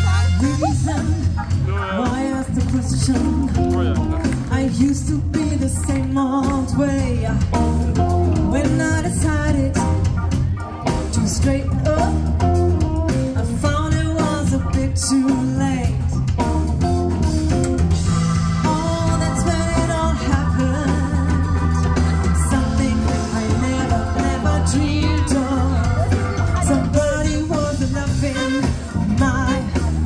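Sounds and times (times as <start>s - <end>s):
person singing: 0.0s - 16.1s, 18.6s - 30.0s
rock band playing: 0.0s - 30.0s.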